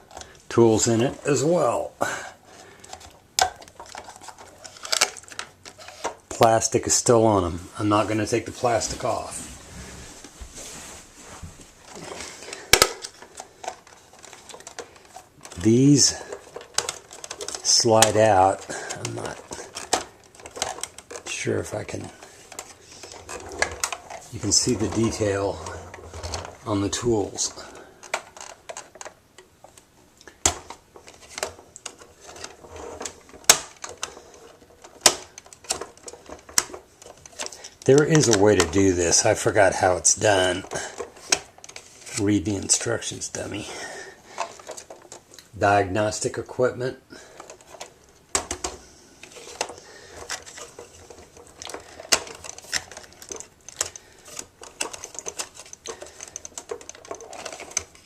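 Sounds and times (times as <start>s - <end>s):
small parts sliding: 0.0s - 6.7s, 8.6s - 46.4s, 47.1s - 58.0s.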